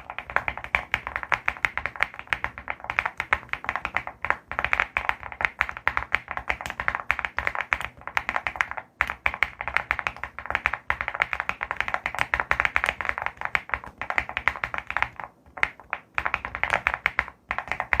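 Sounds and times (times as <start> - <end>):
mechanical keyboard typing: 0.0 - 18.0.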